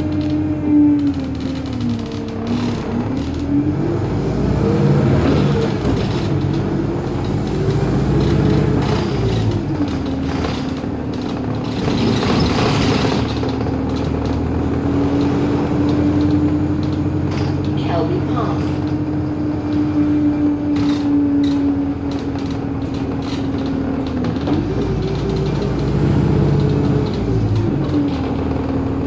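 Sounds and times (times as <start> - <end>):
bus engine accelerating: 0.0 - 29.0
road and body noise: 0.0 - 29.0.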